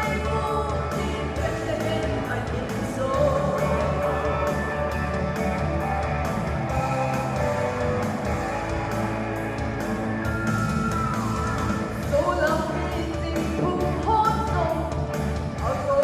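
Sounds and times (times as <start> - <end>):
amplified band music: 0.0 - 16.0.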